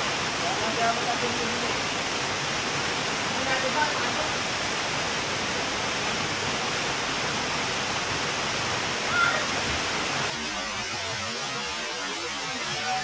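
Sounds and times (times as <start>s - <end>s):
waterfall pouring into pool: 0.0s - 13.0s.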